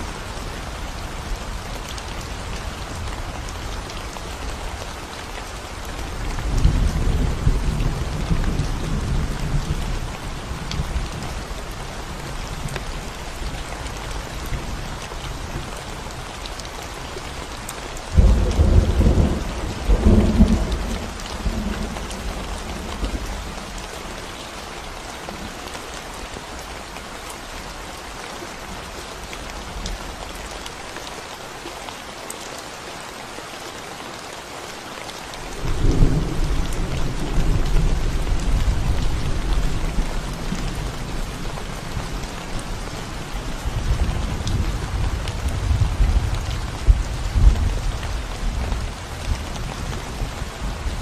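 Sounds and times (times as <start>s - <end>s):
rain falling on concrete: 0.0s - 51.0s.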